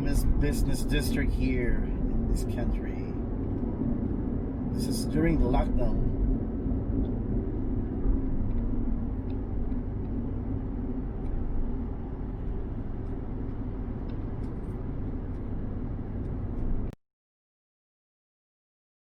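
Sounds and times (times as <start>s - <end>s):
faint hum: 0.0s - 17.0s
road traffic rumble: 0.0s - 17.0s.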